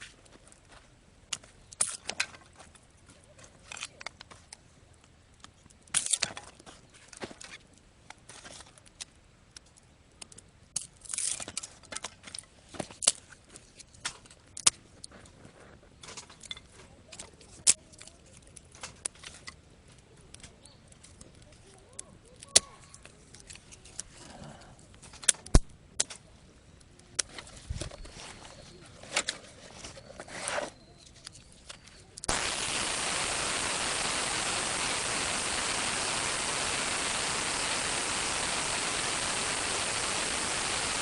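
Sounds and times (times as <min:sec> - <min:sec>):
wood fire crackling: 0:00.0 - 0:27.5, 0:31.8 - 0:41.0.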